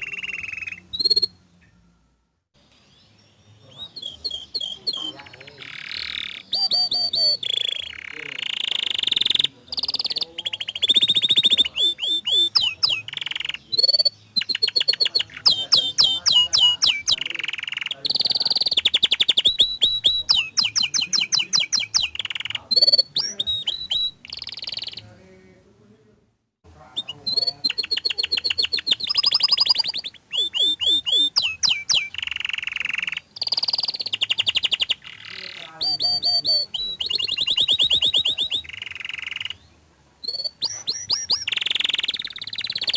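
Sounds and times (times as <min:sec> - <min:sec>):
canary singing: 0:00.0 - 0:25.6, 0:26.7 - 0:42.9.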